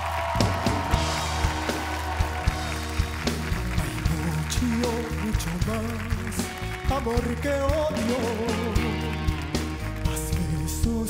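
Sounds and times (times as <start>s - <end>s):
live pop-rock band music: 0.0s - 11.0s.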